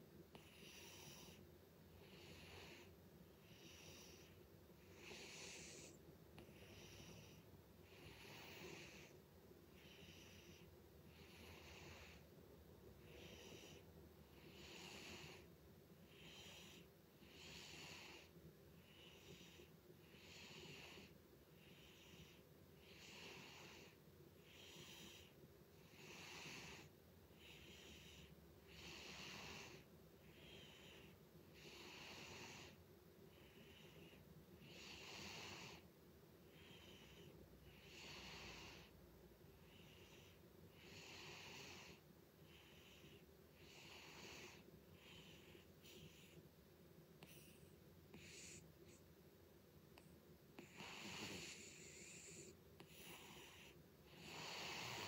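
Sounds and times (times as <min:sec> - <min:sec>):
cat snoring softly: 0:00.0 - 0:46.5, 0:47.2 - 0:49.0, 0:50.0 - 0:55.0.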